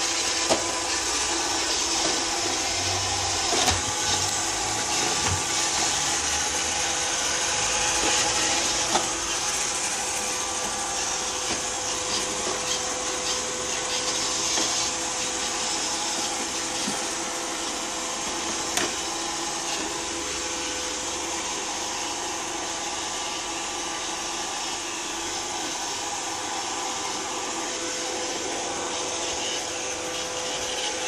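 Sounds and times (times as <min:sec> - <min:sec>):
robot vacuum whirring: 0:00.0 - 0:31.0.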